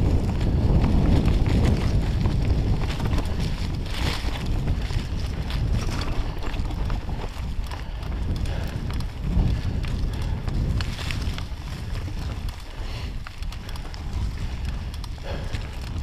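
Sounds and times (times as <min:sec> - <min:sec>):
bike rattling with clicks: 0:00.0 - 0:16.0
wind rumble on microphone: 0:00.0 - 0:16.0.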